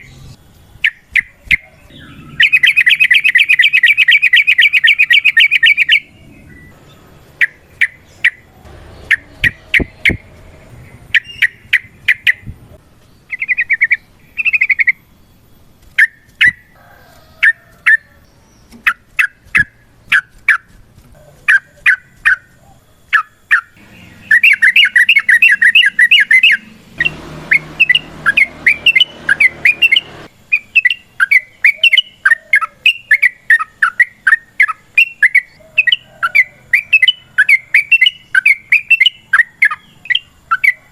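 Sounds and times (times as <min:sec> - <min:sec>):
bird chirping and chattering: 0:00.8 - 0:12.6, 0:13.2 - 0:15.1, 0:18.6 - 0:40.9.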